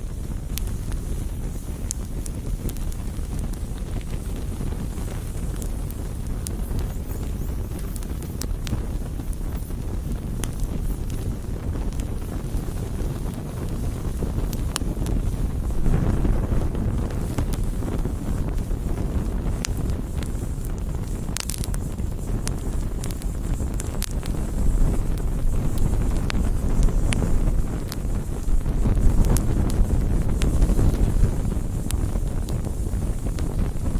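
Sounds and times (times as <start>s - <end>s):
campfire crackling and popping: 0.0s - 33.9s.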